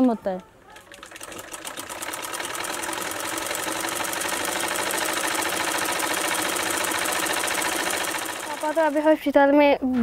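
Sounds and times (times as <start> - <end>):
sewing machine clatter: 0.7 - 9.2.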